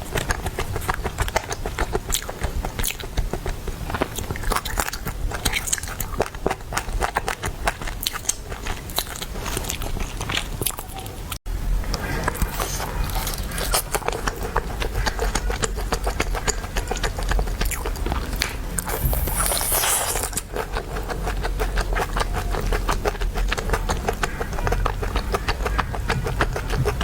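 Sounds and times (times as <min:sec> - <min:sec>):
chewing crunchy chicken: 0:00.0 - 0:27.0.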